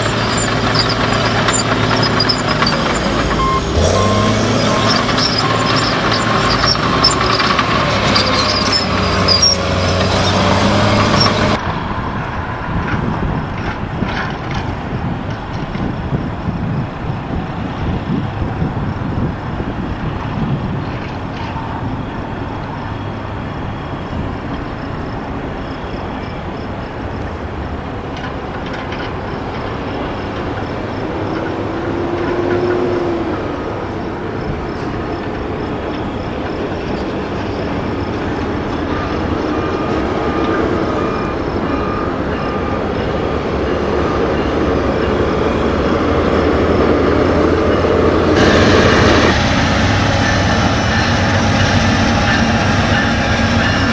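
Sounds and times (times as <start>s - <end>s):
train rumbling on tracks: 0.0s - 53.9s.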